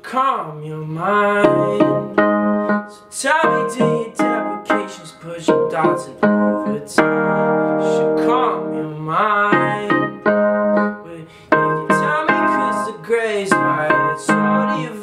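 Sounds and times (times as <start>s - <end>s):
piano chords: 1.3s - 15.0s.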